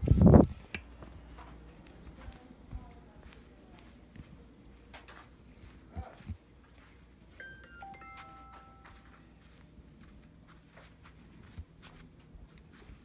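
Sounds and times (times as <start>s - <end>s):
footsteps on carpet: 0.9s - 13.0s.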